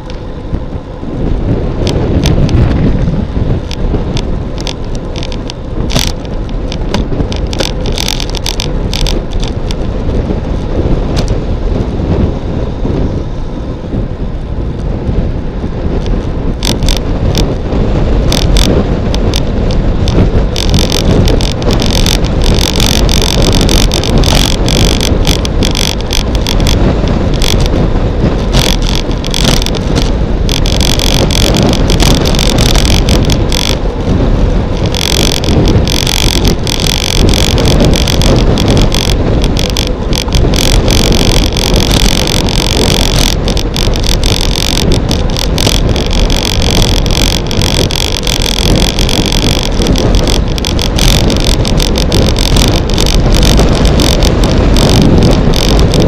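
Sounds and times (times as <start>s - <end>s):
tyres rumbling on asphalt: 0.0s - 56.0s
wind noise on microphone: 0.0s - 56.0s.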